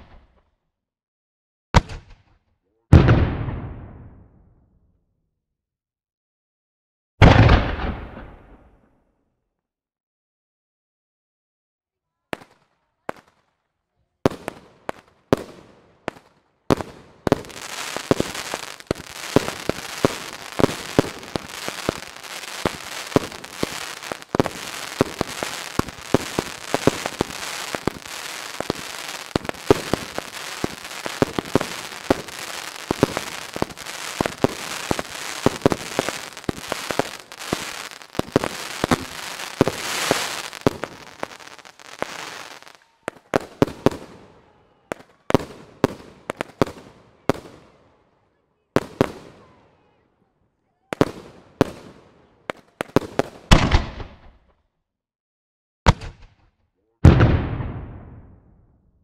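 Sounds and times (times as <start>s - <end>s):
fireworks bangs and crackling: 0.0s - 0.4s, 1.8s - 4.4s, 7.2s - 8.8s, 12.3s - 13.4s, 14.2s - 48.0s, 48.6s - 50.0s, 50.8s - 54.4s, 55.9s - 58.8s.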